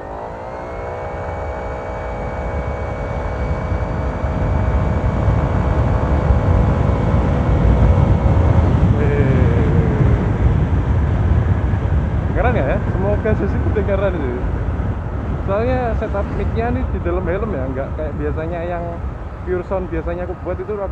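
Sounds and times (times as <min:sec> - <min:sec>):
scooter transmission whine: 0:00.0 - 0:20.9
wind rumble: 0:00.0 - 0:20.9.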